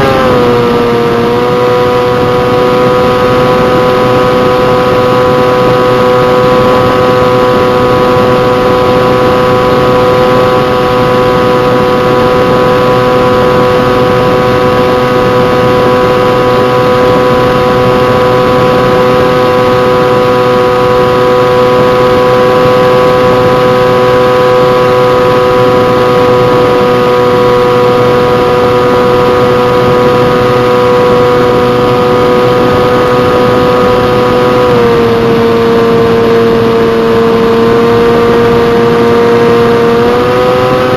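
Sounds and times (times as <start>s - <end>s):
model plane motor whining: 0.0s - 40.9s.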